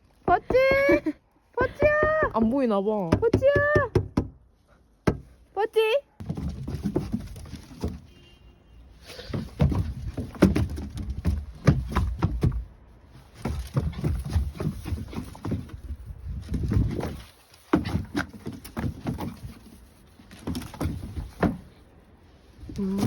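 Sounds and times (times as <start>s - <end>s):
low rumbling rustling background: 0.0s - 23.0s.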